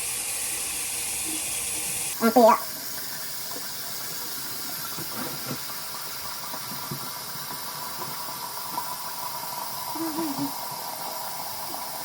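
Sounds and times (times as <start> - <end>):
sink tap running: 0.0 - 12.0.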